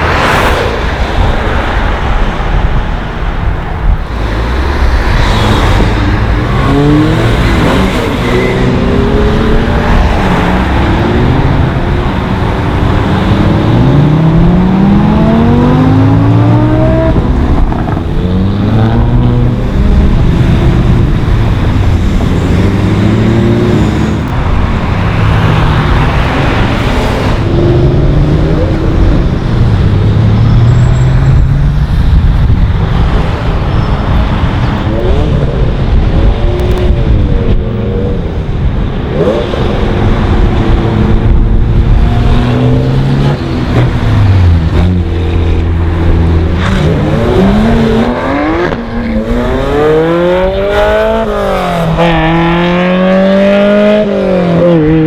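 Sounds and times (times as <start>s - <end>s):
road noise: 0.0s - 55.0s
cars accelerating past: 4.0s - 55.0s.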